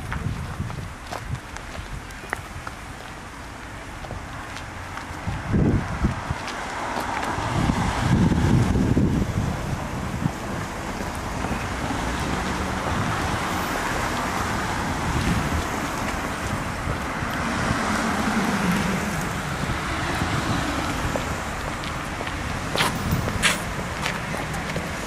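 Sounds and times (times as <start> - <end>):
city street traffic: 0.0 - 25.0
vehicle passing: 4.7 - 25.0.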